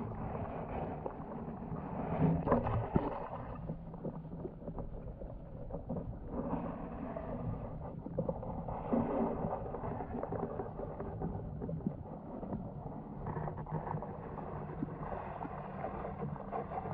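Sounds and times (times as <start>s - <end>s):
muffled underwater rush: 0.0s - 16.9s.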